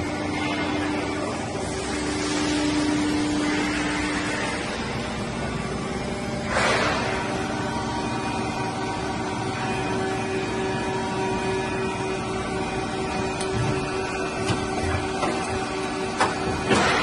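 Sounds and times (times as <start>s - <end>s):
injection moulding machine humming: 0.0s - 17.0s.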